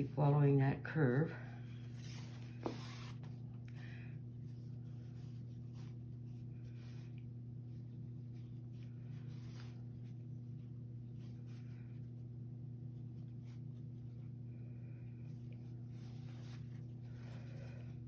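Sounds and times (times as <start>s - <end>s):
steady low hum: 0.0s - 18.0s
cloth rustling: 1.6s - 3.6s, 4.2s - 14.4s, 15.1s - 18.0s.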